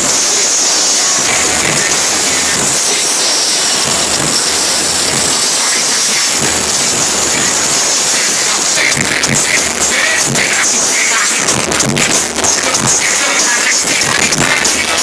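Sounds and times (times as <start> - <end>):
live rock band on loud speakers: 0.0 - 15.0
low bass notes pulsing: 0.0 - 15.0.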